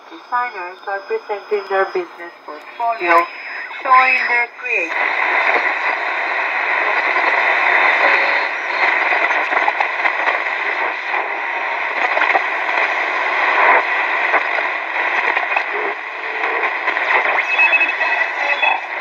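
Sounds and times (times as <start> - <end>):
radio static hiss: 0.0 - 19.0
static crackles: 0.0 - 19.0.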